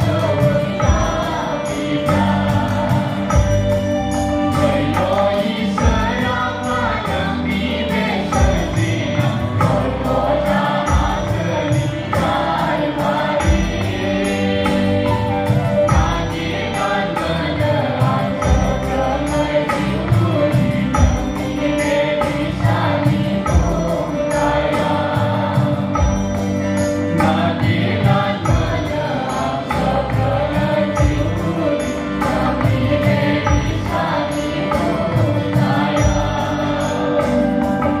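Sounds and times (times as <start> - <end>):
instrumental accompaniment with beat: 0.0 - 38.0
mixed choir singing worship song: 0.0 - 38.0.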